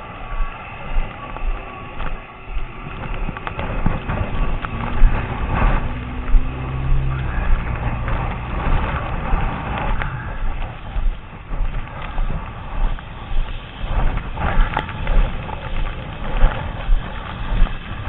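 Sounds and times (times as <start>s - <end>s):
vehicle engine hum: 0.0s - 18.0s
wind buffeting microphone: 0.0s - 18.0s.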